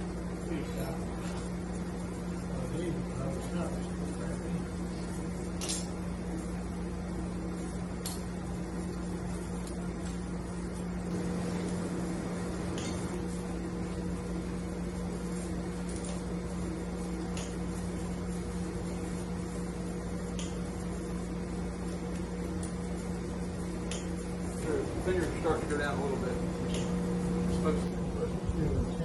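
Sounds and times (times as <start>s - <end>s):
electric hum of shop equipment: 0.0s - 29.0s.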